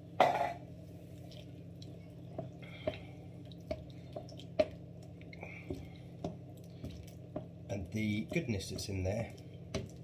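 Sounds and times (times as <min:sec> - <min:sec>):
steady low hum: 0:00.0 - 0:10.0
wooden spoon stirring sauce: 0:01.2 - 0:10.0.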